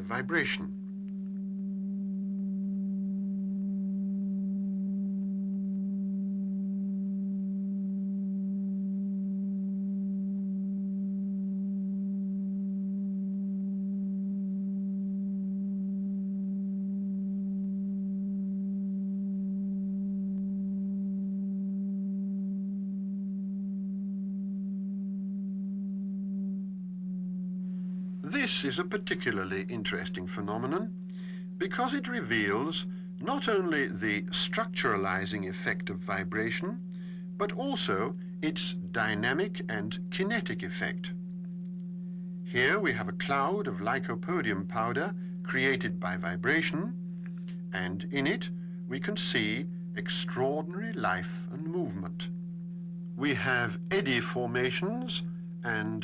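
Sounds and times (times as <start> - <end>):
low electronic tone: 0.0 - 56.0.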